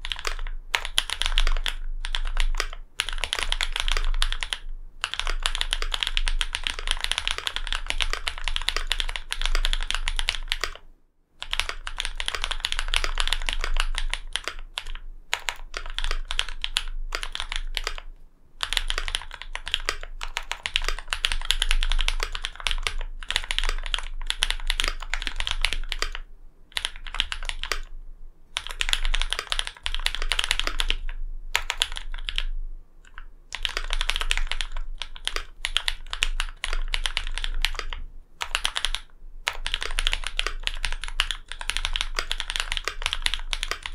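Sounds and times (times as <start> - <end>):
fast mechanical keyboard typing: 0.0 - 10.8, 11.4 - 27.9, 28.6 - 43.9.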